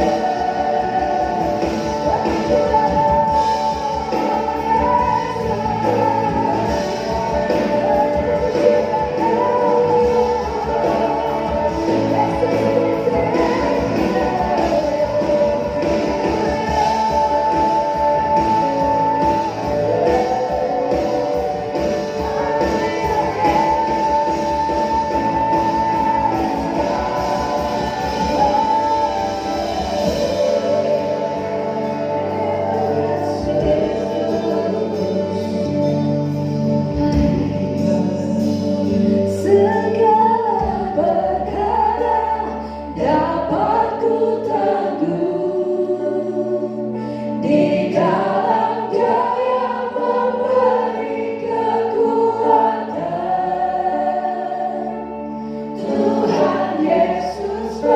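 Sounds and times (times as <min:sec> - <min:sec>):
worship band music with guitar: 0:00.0 - 0:57.9.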